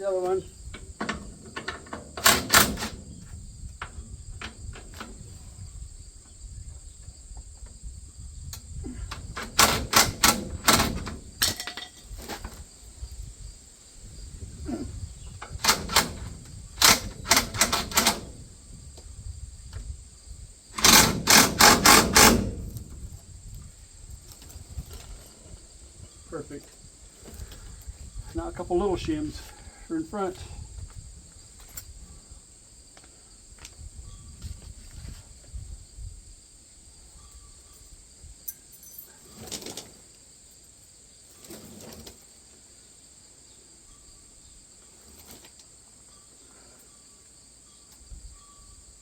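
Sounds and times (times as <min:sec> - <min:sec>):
crickets chirping: 0:00.0 - 0:49.0.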